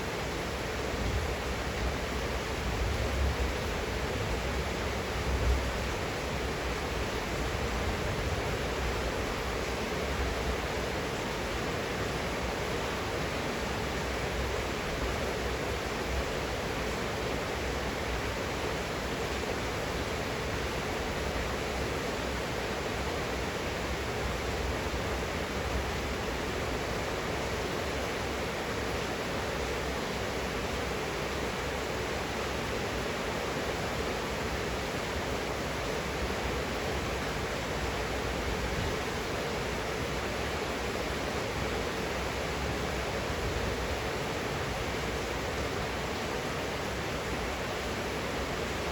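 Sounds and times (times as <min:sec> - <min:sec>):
rain falling steadily: 0:00.0 - 0:48.9.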